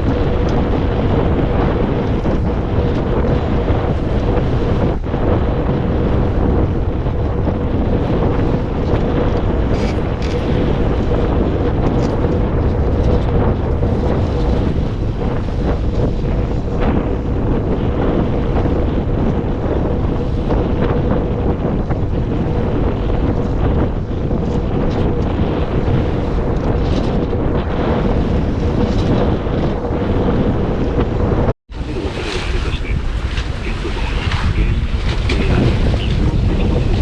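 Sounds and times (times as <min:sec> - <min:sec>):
water washing along hull: 0:00.0 - 0:37.0
wind buffeting microphone: 0:00.0 - 0:37.0.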